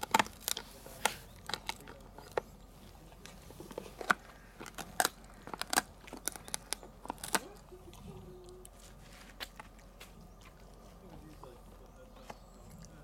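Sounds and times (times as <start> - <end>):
dog crunching a chew: 0.0 - 13.0.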